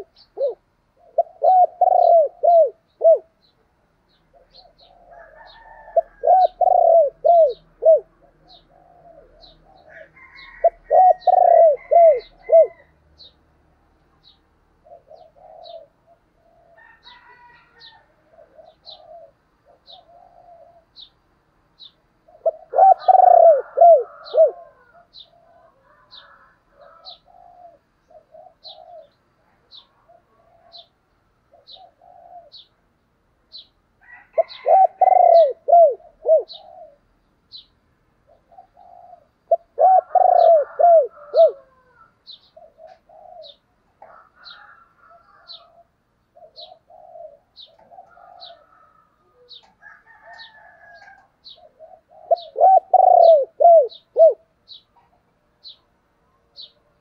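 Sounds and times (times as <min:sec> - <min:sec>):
dove cooing: 0:00.0 - 0:03.5, 0:04.2 - 0:13.3, 0:14.7 - 0:21.1, 0:22.2 - 0:32.8, 0:33.5 - 0:37.6, 0:38.2 - 0:56.9.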